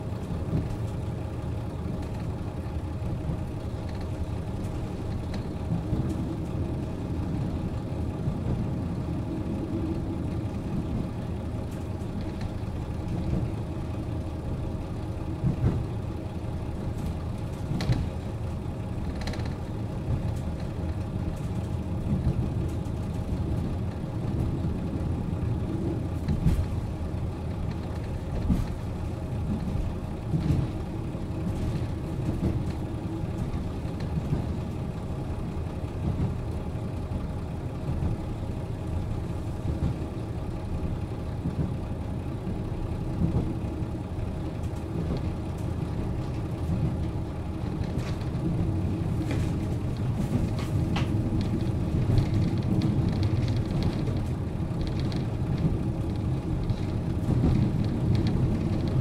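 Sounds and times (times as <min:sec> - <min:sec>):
diesel railcar engine idling: 0:00.0 - 0:59.0.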